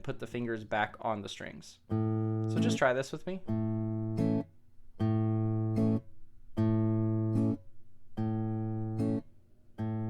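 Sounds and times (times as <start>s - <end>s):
guitar chord fingerpicked: 1.9s - 10.0s.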